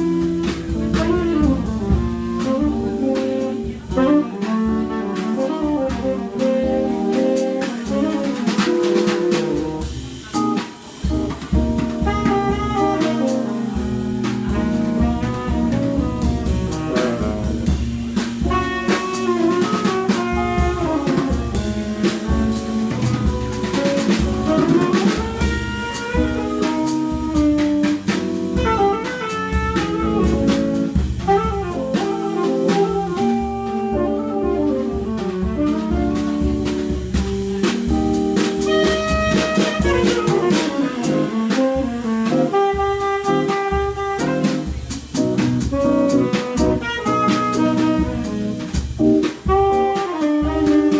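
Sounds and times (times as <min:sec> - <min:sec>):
tenor saxophone melody: 0:00.0 - 0:10.0, 0:11.1 - 0:50.9
drum kit: 0:00.0 - 0:50.9.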